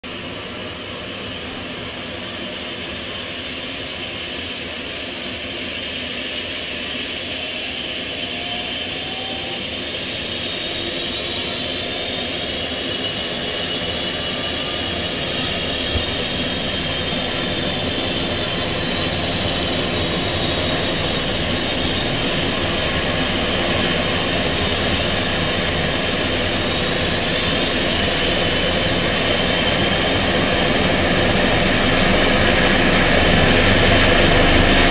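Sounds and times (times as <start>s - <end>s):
helicopter engine whine starting up: 0.1s - 34.9s.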